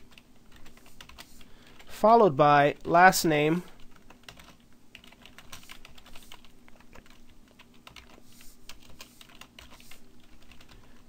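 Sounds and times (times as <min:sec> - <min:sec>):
typing on computer keyboard: 0:00.0 - 0:01.9, 0:03.7 - 0:11.0.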